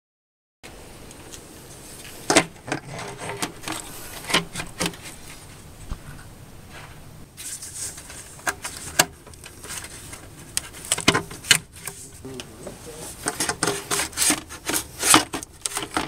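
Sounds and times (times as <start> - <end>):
hands working rubber hoses: 2.0 - 6.1, 6.7 - 16.0.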